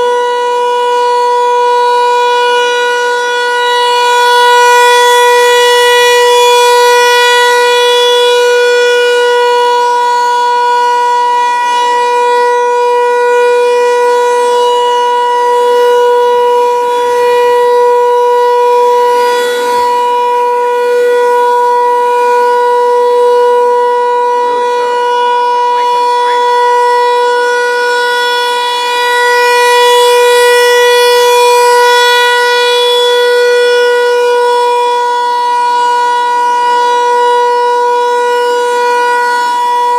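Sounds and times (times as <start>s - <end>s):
tornado siren steady tone: 0.0s - 39.9s.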